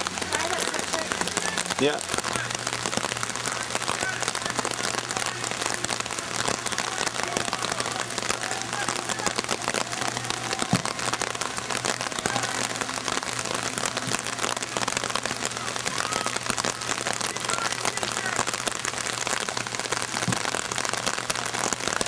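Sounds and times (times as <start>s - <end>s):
rain patter: 0.0s - 22.0s.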